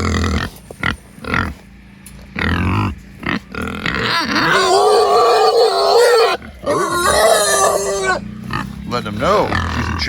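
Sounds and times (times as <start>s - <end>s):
pig squealing: 0.0s - 1.6s, 2.4s - 10.0s
pigs grunting: 0.0s - 10.0s.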